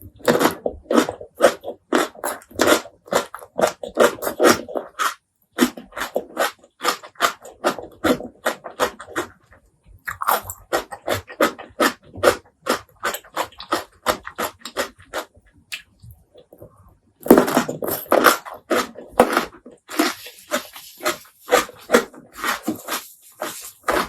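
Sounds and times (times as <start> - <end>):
wet chewing and mouth smacks: 0.2 - 16.7, 17.4 - 24.0.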